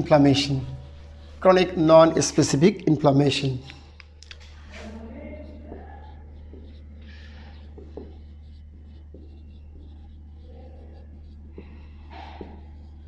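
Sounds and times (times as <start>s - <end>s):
marker squeaking on whiteboard: 0.0s - 3.6s, 4.3s - 13.0s
steady low hum: 0.0s - 13.0s.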